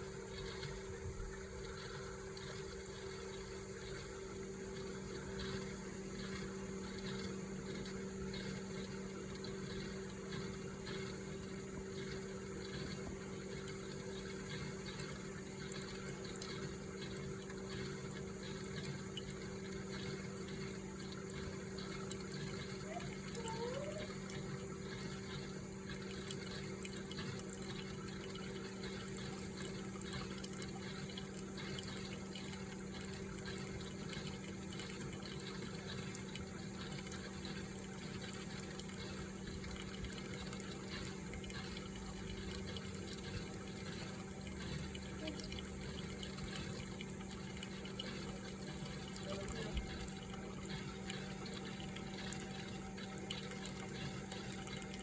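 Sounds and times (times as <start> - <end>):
coffee maker humming: 0.0 - 55.0
water running: 0.0 - 55.0.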